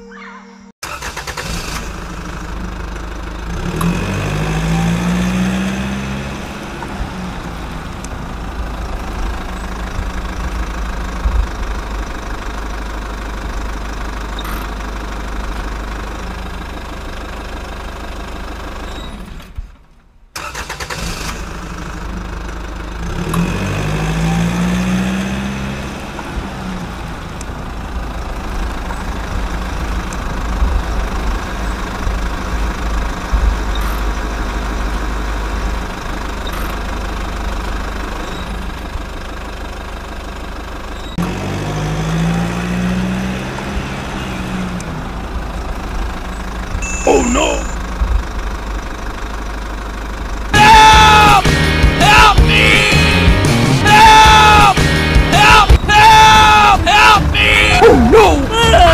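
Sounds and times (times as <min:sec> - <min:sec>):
engine starting up and idling: 0:00.8 - 0:50.6.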